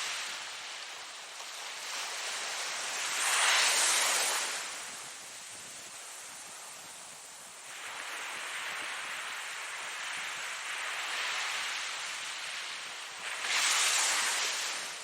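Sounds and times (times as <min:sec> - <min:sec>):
ocean surf waves breaking: 0:00.0 - 0:05.6, 0:07.6 - 0:15.0.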